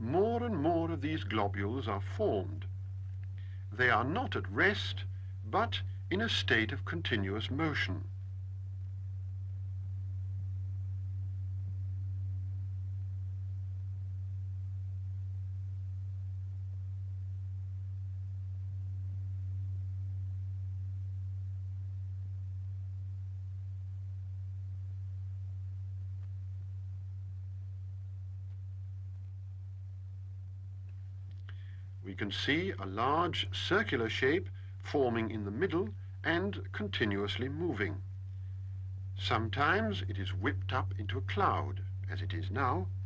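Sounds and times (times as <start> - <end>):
steady low pure tone: 0.0 - 43.0.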